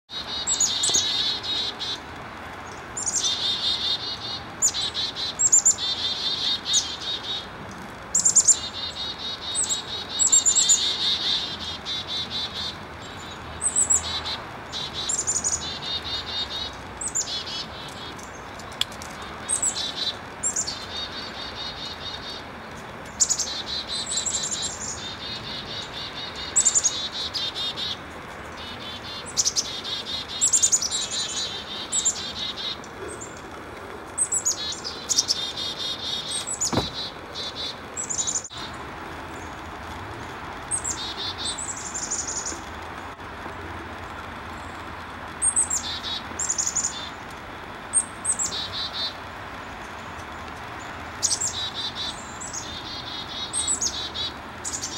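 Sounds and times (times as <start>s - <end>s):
chickadees mobbing calls: 0.1s - 39.5s, 40.6s - 42.7s, 45.4s - 47.2s, 47.9s - 54.9s.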